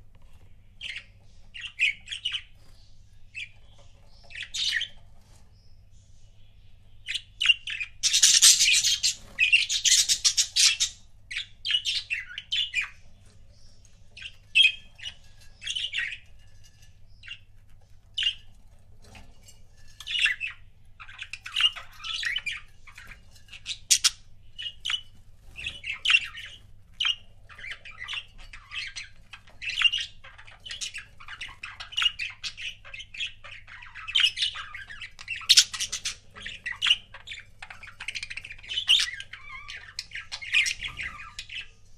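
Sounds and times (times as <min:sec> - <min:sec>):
budgerigars chirping and squawking: 0:00.2 - 0:41.9.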